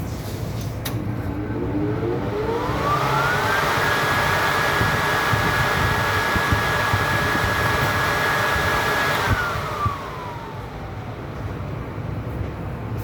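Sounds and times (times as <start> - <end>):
oven fan motor whining: 0.6 - 12.4.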